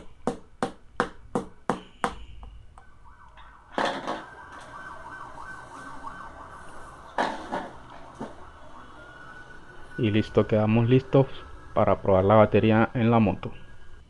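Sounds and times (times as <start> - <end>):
wavering background sound: 2.5 - 14.0.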